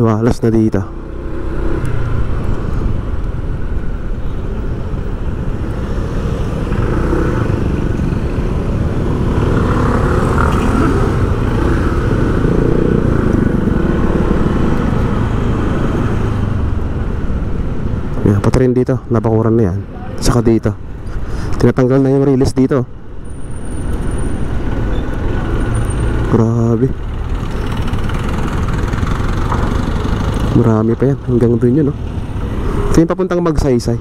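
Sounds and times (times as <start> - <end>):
road traffic drone: 0.0 - 34.0.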